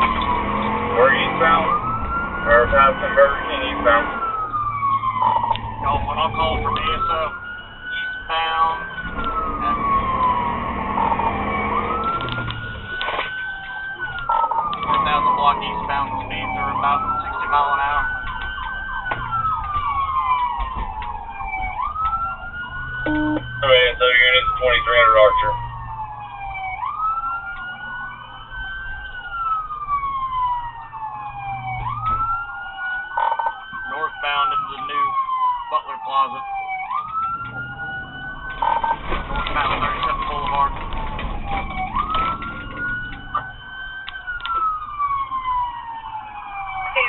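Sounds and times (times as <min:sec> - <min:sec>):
car road noise: 0:00.0 - 0:47.0
police siren wailing: 0:00.0 - 0:47.0.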